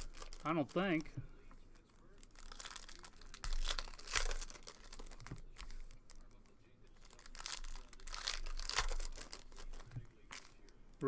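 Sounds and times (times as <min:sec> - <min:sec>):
card pack wrappers crinkling: 0:00.0 - 0:01.1, 0:02.0 - 0:06.4, 0:07.0 - 0:10.8.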